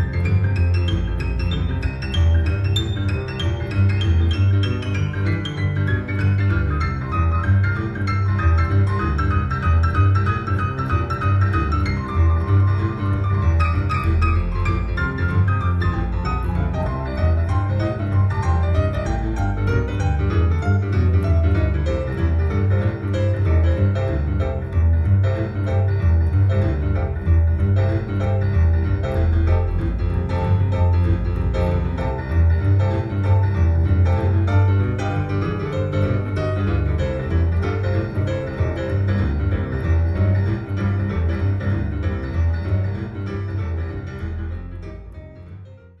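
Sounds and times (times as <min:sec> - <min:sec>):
deep bass line: 0:00.0 - 0:46.0.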